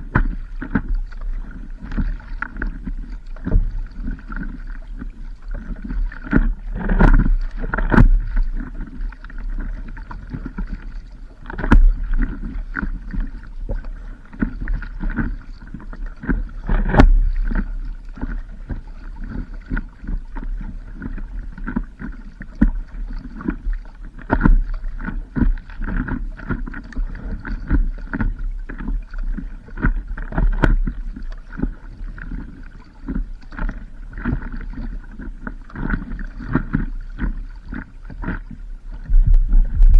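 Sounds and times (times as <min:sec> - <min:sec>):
constant low rumble: 0:00.0 - 0:39.9
water sloshing around paddleboard: 0:00.0 - 0:39.9.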